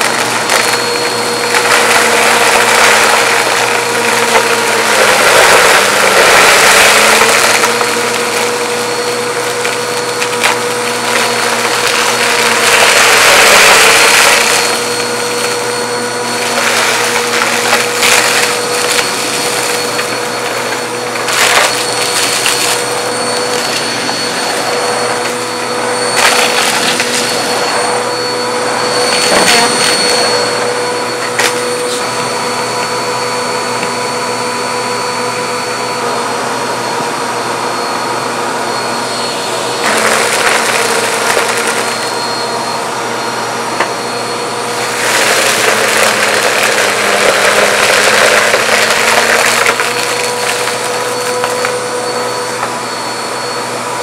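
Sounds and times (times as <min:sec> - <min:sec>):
upright vacuum cleaner running: 0:00.0 - 0:54.0.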